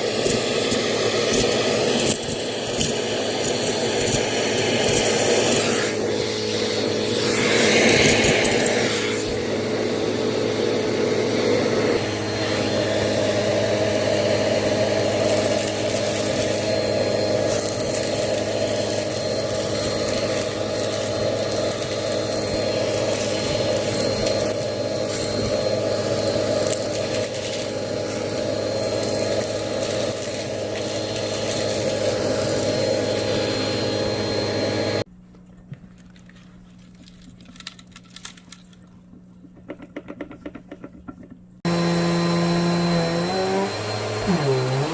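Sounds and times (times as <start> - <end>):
vacuum cleaner running: 0.0 - 35.1, 41.6 - 44.9.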